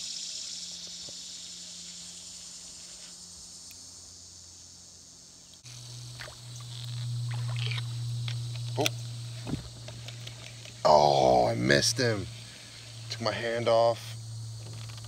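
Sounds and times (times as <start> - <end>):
summer insects droning: 0.0 - 15.0
low hum: 0.6 - 15.0.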